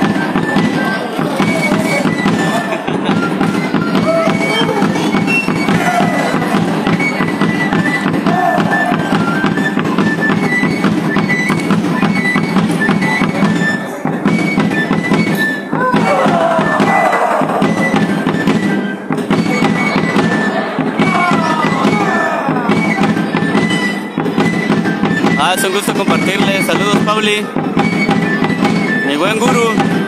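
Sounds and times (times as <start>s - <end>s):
steady drum beat: 0.0s - 30.0s.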